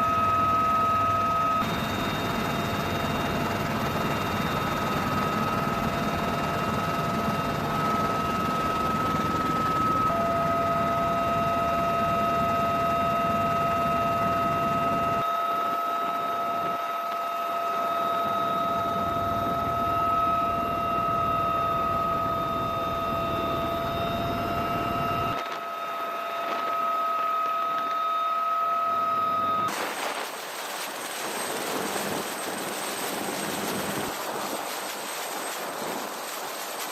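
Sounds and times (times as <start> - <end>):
helicopter turbine whine: 0.0 - 36.9.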